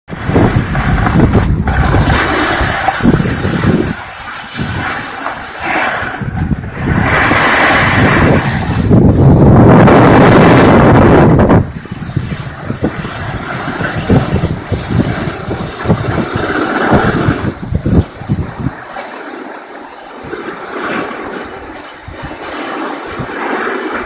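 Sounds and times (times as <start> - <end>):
snowboard scraping on snow: 0.1 - 24.0
wind buffeting microphone: 0.1 - 24.0.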